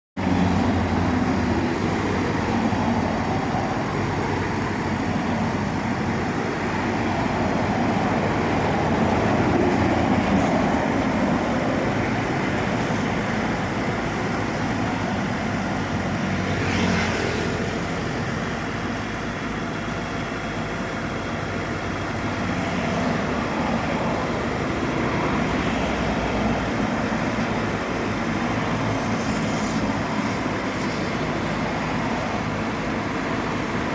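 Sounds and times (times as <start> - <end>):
vehicle engine hum and road noise: 0.2 - 33.9.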